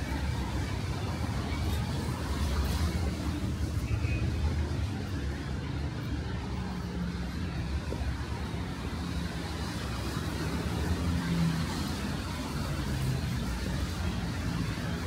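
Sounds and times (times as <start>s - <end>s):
traffic engine hum: 0.0s - 15.0s.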